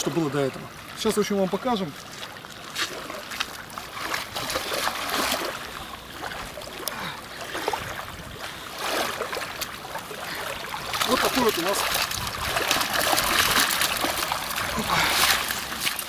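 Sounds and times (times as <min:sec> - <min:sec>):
feet wading through water: 0:00.0 - 0:16.0
keepnet splashing in water: 0:02.6 - 0:16.0.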